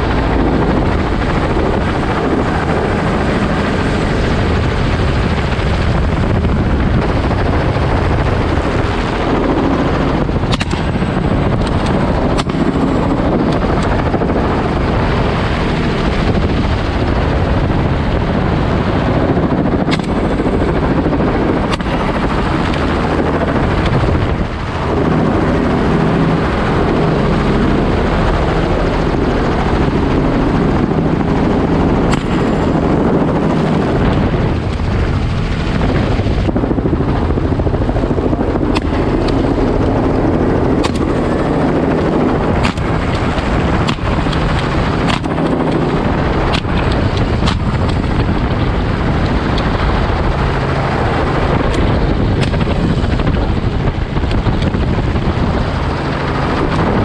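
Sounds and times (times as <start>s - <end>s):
helicopter rotor and engine: 0.0s - 57.0s
wind rushing: 0.0s - 57.0s.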